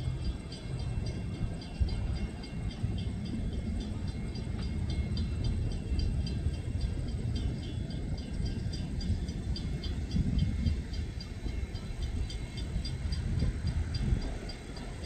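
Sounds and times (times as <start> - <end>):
freight train rumble: 0.0 - 15.0
railroad crossing bell ringing: 0.0 - 15.0.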